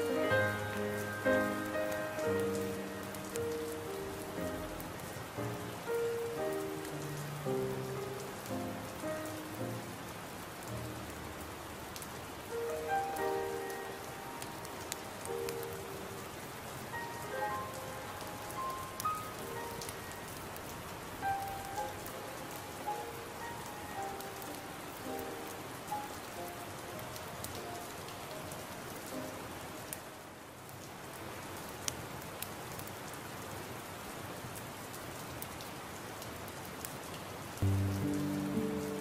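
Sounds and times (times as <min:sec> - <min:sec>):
soft background music: 0:00.0 - 0:29.9, 0:37.6 - 0:39.0
steady rain hiss: 0:00.0 - 0:39.0.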